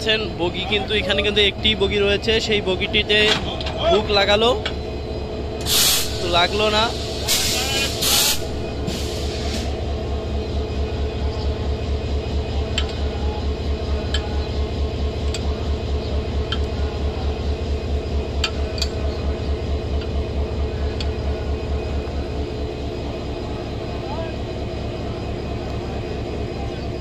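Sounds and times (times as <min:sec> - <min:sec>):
diesel locomotive idling: 0:00.0 - 0:27.0.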